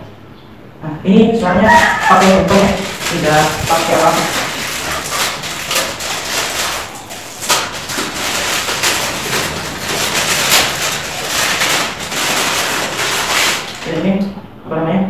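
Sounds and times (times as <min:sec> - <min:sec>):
plastic packaging crinkling: 0:01.6 - 0:14.4.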